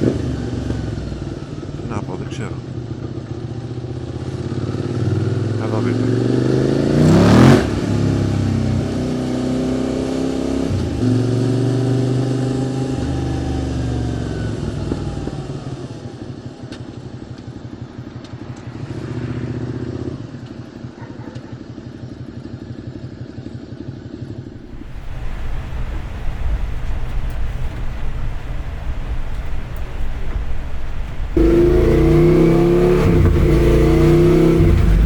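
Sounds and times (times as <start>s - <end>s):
motorcycle engine revving: 0.0s - 25.1s, 30.2s - 35.0s.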